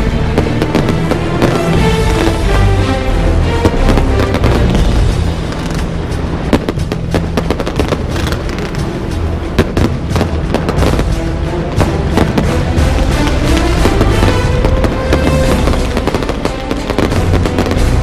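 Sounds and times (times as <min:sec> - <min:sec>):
loud music: 0:00.0 - 0:18.0
fireworks bangs: 0:00.2 - 0:02.9, 0:03.5 - 0:18.0.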